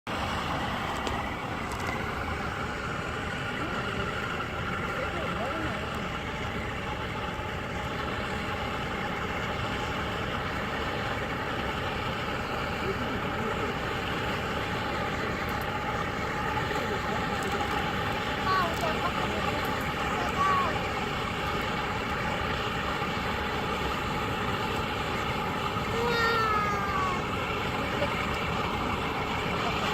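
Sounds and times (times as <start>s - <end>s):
stove fire rushing rumble: 0.1s - 29.9s.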